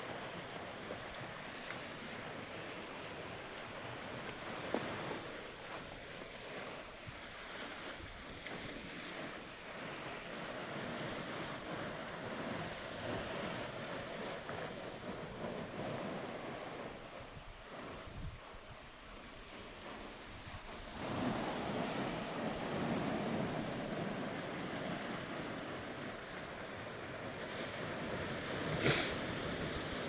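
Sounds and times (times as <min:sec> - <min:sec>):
sea waves washing on shore: 0:00.0 - 0:30.0
wind: 0:00.0 - 0:30.0.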